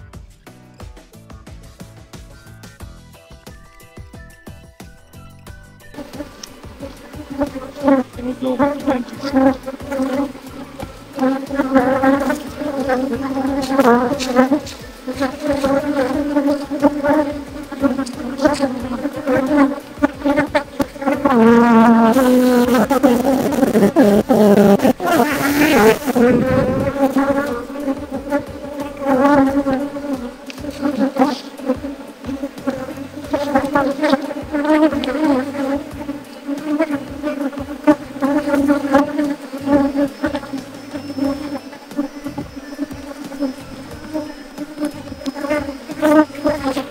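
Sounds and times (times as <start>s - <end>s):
honey bees buzzing: 1.4s - 46.9s.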